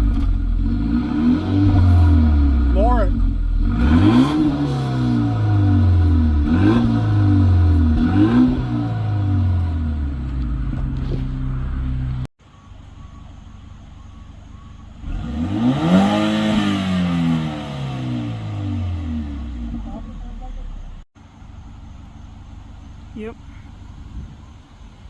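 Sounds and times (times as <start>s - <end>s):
car exhaust revving and idling: 0.0s - 25.0s.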